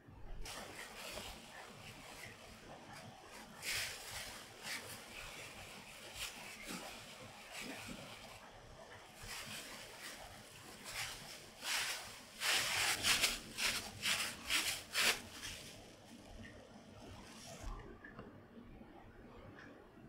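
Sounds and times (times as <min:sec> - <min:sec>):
plastic gloves crinkling: 0:00.3 - 0:17.9.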